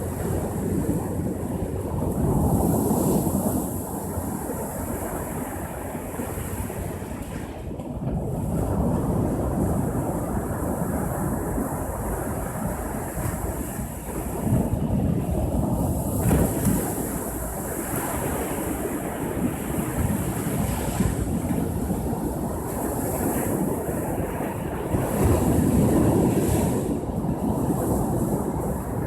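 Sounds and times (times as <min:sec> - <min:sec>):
ocean waves breaking on shore: 0:00.0 - 0:29.0
wind rumbling on microphone: 0:00.0 - 0:29.0.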